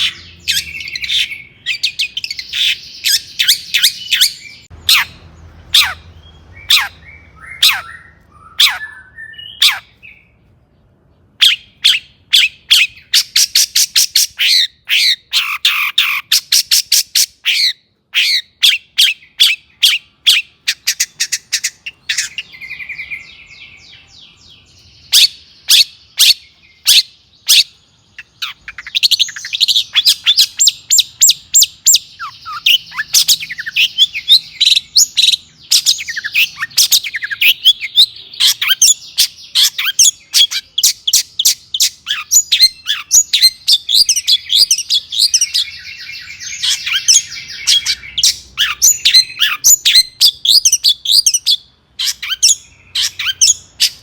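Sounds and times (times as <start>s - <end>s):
fast twittering bird warble: 0.0s - 10.3s, 11.3s - 54.0s
buzzy bird trill: 0.0s - 10.4s, 11.2s - 54.0s
bird singing harsh notes: 0.0s - 54.0s.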